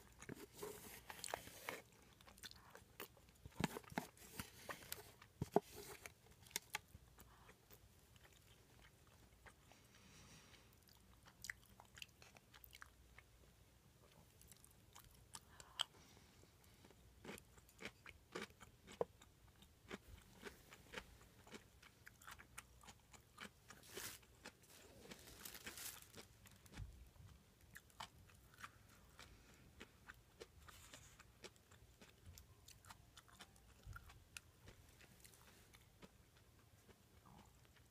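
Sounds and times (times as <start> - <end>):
person chewing: 0.0 - 13.3, 16.6 - 37.9.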